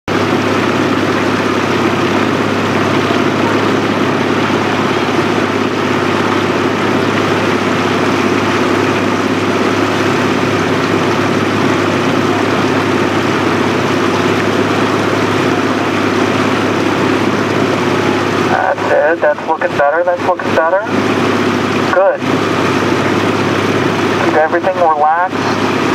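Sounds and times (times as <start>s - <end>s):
outboard motor running: 0.1s - 25.9s.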